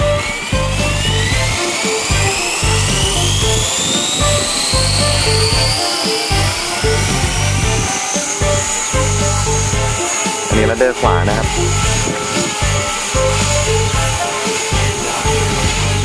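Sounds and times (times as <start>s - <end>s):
background music with beat: 0.0s - 16.0s
model helicopter rotor whining: 0.0s - 16.0s.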